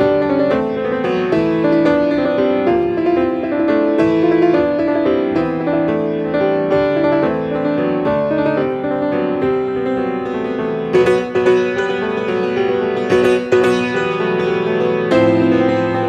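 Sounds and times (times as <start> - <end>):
solo piano playing: 0.0 - 16.0.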